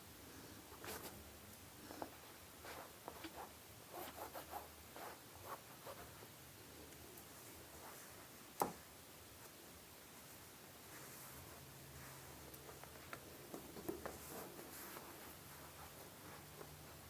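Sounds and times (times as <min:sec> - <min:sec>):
faint rustling and scraping: 0:00.3 - 0:17.0.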